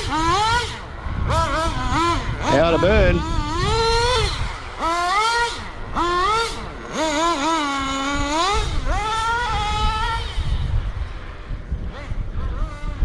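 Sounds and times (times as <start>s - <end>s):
small nitro engine revving: 0.0s - 13.0s.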